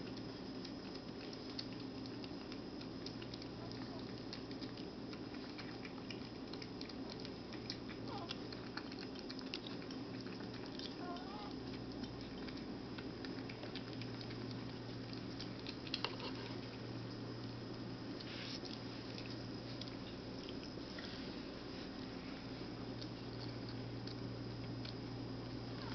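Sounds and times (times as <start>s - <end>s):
kittens chewing and lapping: 0.0s - 25.9s
steady low hum: 0.0s - 25.9s.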